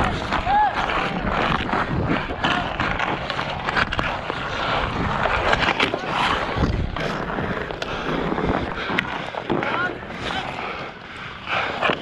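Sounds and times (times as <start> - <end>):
hockey sticks clacking on puck: 0.0 - 10.6, 11.5 - 12.0
ice skate blades scraping: 0.0 - 12.0.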